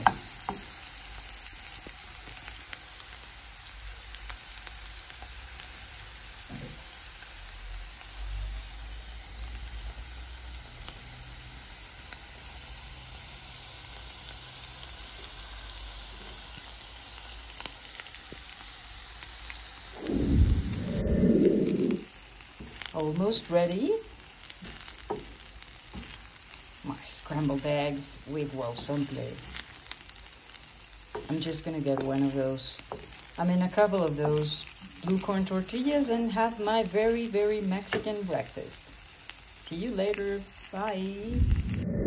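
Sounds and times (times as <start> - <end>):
onions sizzling in oil: 0.0 - 41.8.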